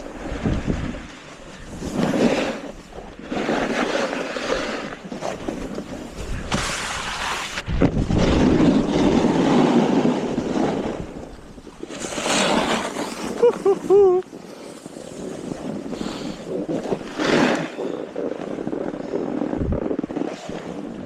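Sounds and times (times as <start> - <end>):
snowboard scraping over snow: 0.0 - 21.0
wind on microphone: 0.0 - 21.0.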